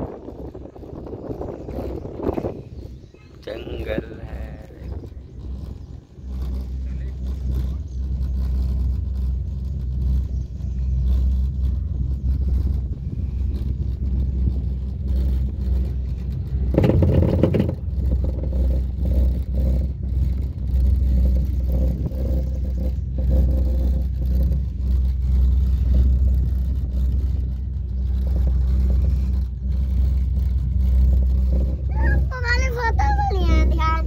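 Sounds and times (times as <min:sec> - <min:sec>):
gondola cabin rumble: 0:00.0 - 0:34.0
rattle: 0:00.0 - 0:34.0.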